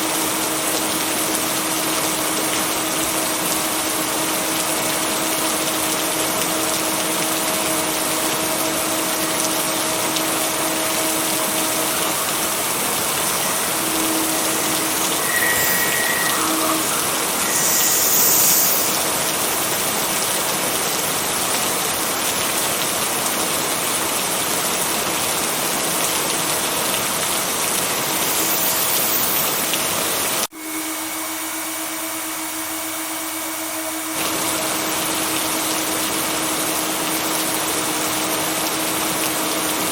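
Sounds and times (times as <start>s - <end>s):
heavy rain: 0.0s - 30.5s, 34.2s - 39.9s.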